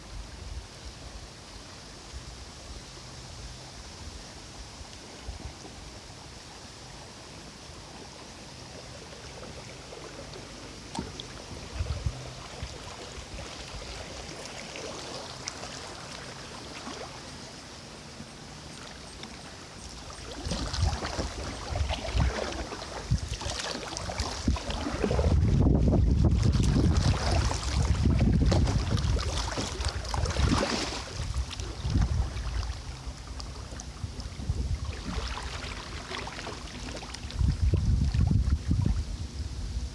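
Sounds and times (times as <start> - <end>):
moving water: 0.0 - 39.9
kayak paddle splashing: 4.8 - 39.2.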